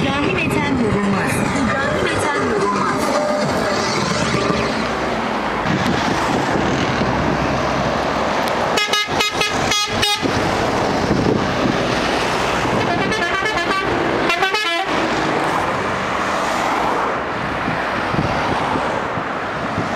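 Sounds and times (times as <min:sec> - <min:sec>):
highway traffic noise: 0:00.0 - 0:19.9.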